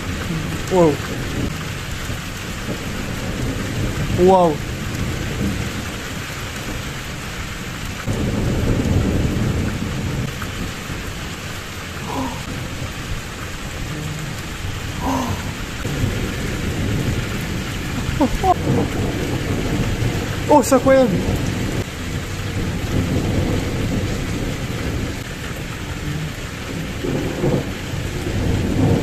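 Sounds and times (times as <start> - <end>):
heavy rain downpour: 0.0 - 29.0
rolling thunder: 0.0 - 29.0.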